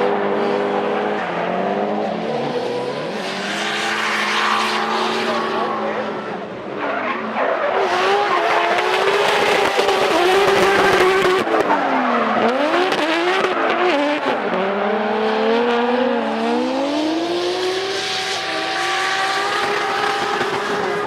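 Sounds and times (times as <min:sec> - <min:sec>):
car engines revving high: 0:00.0 - 0:21.0.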